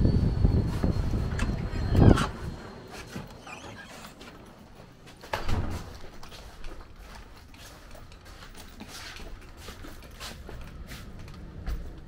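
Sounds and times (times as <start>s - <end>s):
footsteps: 0.6s - 12.0s.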